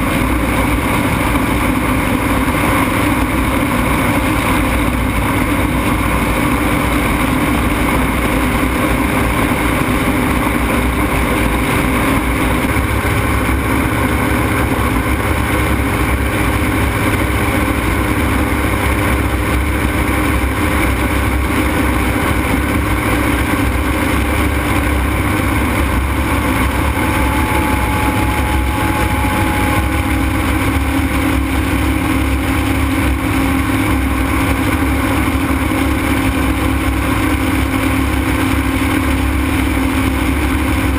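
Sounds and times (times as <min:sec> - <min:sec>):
aircraft engine drone: 0:00.0 - 0:40.9.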